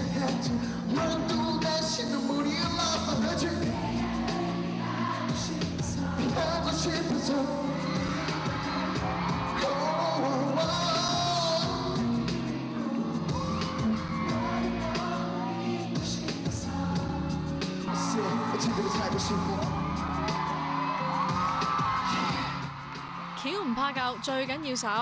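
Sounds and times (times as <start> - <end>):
live pop song with male vocal: 0.0 - 20.6
fans screaming and cheering: 0.0 - 25.0.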